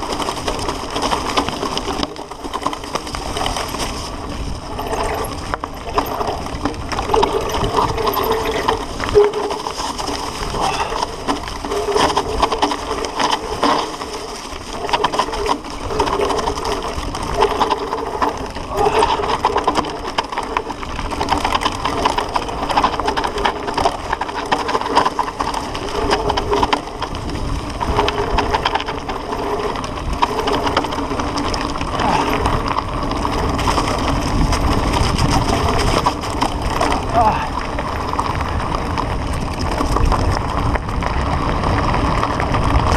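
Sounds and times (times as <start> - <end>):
bike rattling and clattering: 0.0 - 42.9
tyres crunching over gravel: 0.0 - 42.9.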